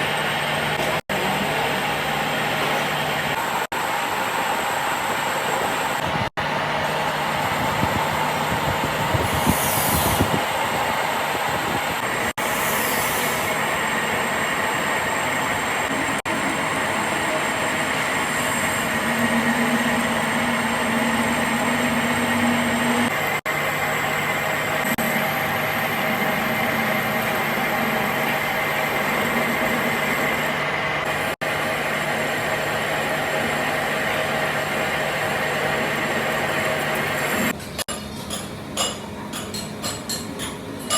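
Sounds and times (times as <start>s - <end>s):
mechanical running hum: 0.0s - 40.9s.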